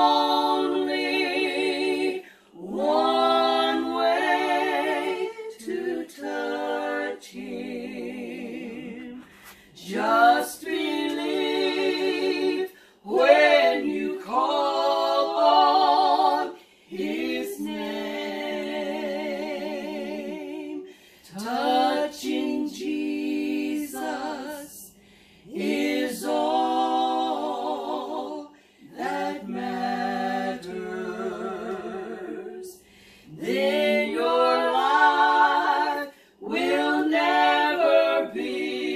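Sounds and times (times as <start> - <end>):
women singing unaccompanied: 0.0 - 38.9.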